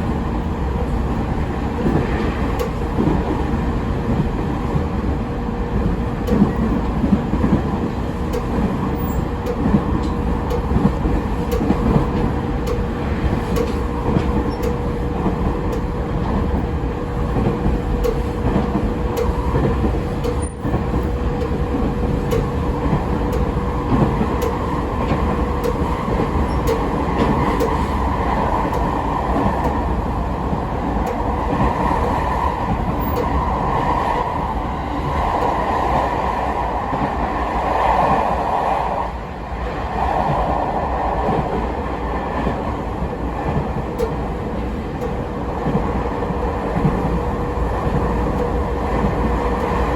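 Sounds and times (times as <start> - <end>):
steady train hum: 0.0 - 49.9
train wheels rumbling on rail: 0.0 - 49.9.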